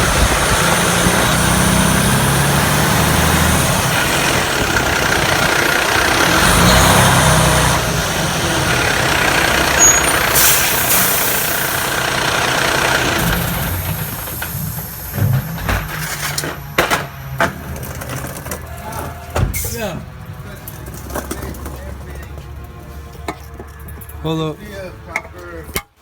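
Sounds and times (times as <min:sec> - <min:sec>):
truck engine drone: 0:00.0 - 0:25.7.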